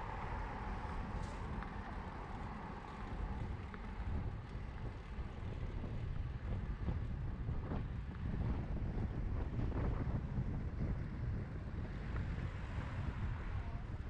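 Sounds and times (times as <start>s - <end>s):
road traffic: 0.0s - 14.0s
wind rumbling on microphone: 0.0s - 14.0s.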